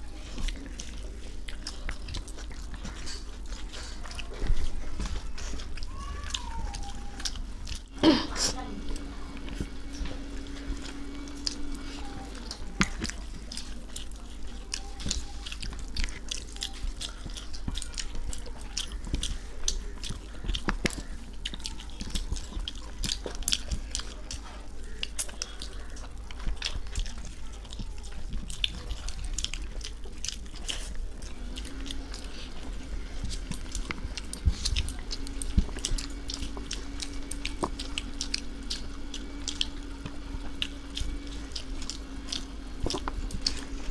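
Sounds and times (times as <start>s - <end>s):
chewing and eating sounds: 0.0s - 43.9s
steady low hum: 0.0s - 43.9s.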